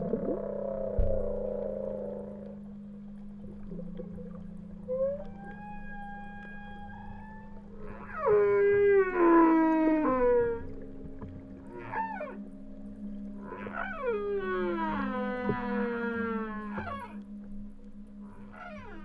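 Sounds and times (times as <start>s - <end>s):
whale moans: 0.0s - 17.5s, 18.1s - 19.0s
low drone: 0.0s - 19.0s.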